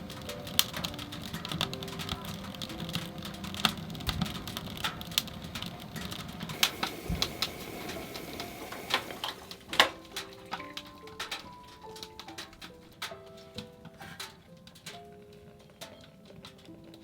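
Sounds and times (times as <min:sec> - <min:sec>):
firewood crackling and popping: 0:00.0 - 0:17.0
low rumble of fire: 0:00.0 - 0:17.0.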